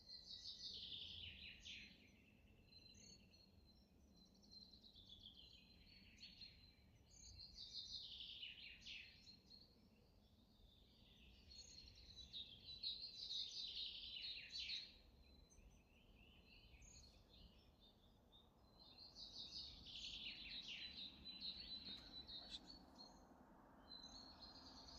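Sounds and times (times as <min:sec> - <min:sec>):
small songbirds twittering: 0:00.0 - 0:24.9.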